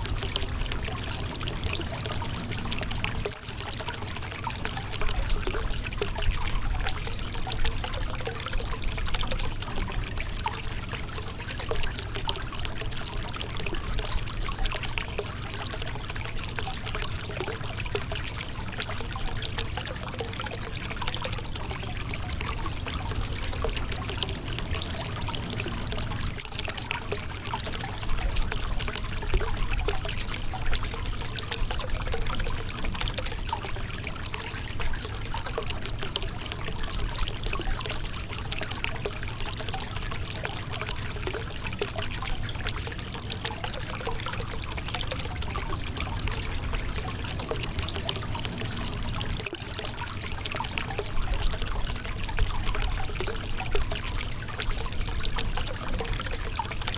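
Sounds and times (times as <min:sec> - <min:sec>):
water flowing over rocks: 0:00.0 - 0:56.9.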